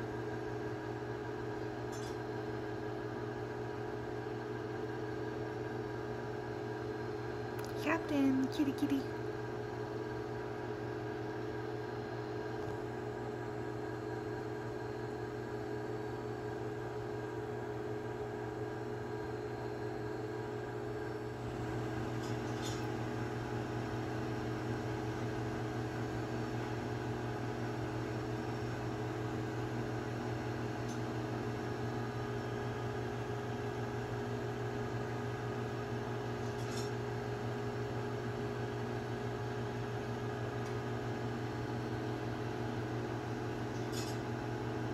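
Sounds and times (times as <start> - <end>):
household appliance humming: 0.0 - 44.9.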